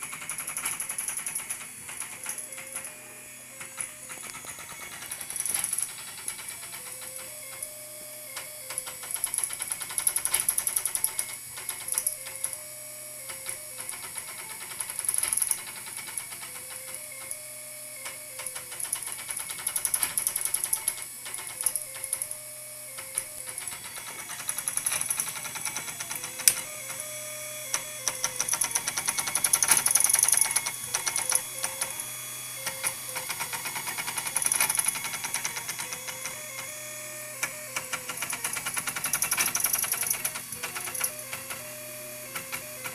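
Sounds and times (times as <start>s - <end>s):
motor musical tones: 0.0s - 42.9s
stepper motors clanking: 0.0s - 42.9s.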